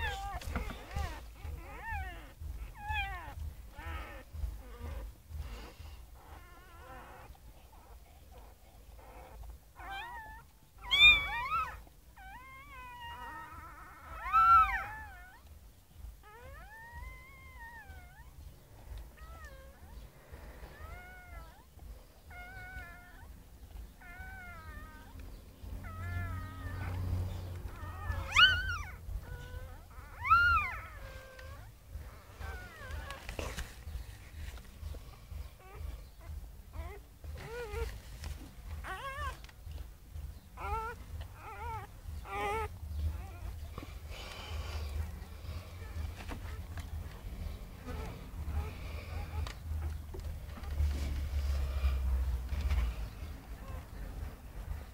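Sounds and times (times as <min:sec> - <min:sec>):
newborn puppies squealing: 0:00.0 - 0:54.9.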